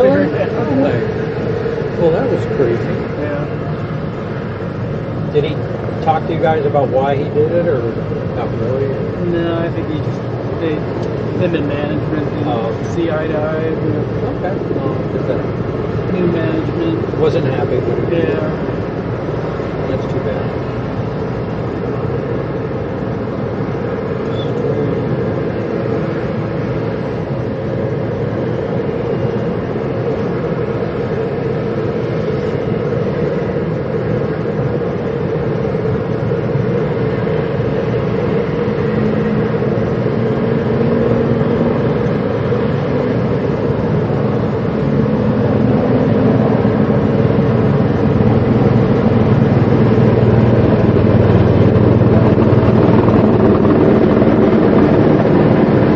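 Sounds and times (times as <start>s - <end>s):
large engine humming: 0.0s - 55.9s.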